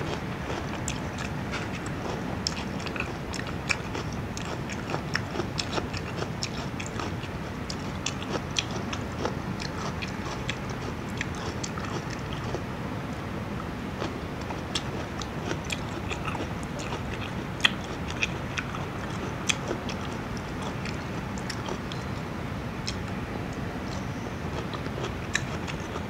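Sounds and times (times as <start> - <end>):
person chewing food: 0.0 - 12.7, 14.0 - 22.1, 22.8 - 26.0.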